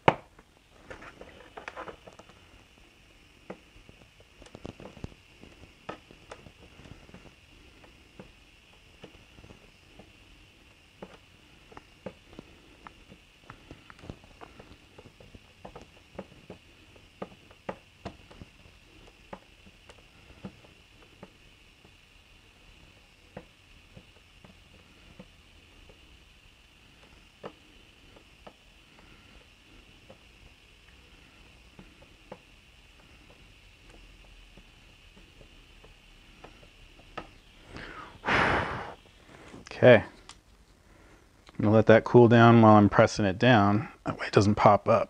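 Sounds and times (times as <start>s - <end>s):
faint steady hiss: 0.0s - 45.0s
soldering iron melting plastic: 0.0s - 45.0s.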